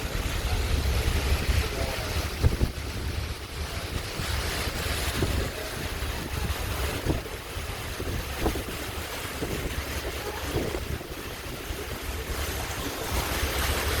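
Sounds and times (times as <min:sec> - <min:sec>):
low rumble of ship: 0:00.0 - 0:14.0
rushing water: 0:00.0 - 0:14.0
wind buffeting microphone: 0:00.0 - 0:14.0.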